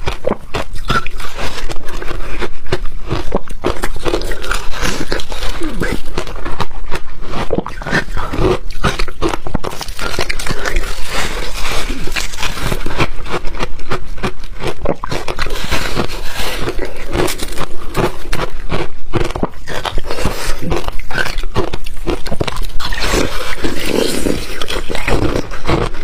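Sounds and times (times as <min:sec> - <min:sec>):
person crunching ice: 0:00.0 - 0:26.0.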